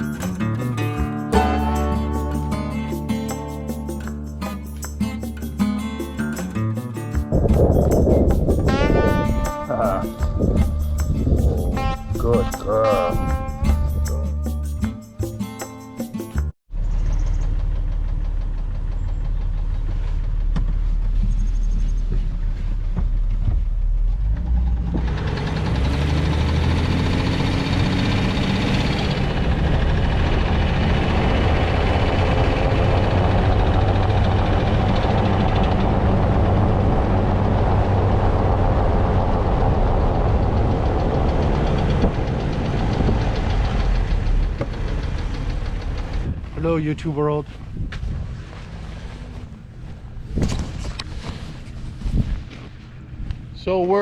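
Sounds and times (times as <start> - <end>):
motor vehicle running: 0.0 - 54.0.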